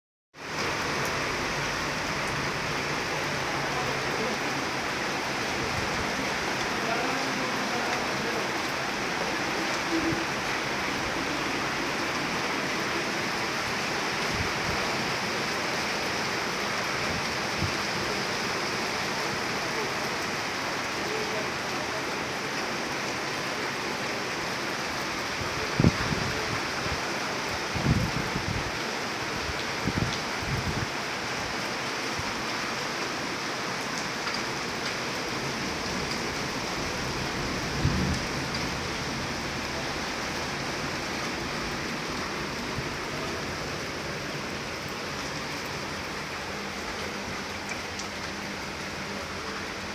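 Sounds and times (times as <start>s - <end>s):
heavy rain falling: 0.4s - 49.9s.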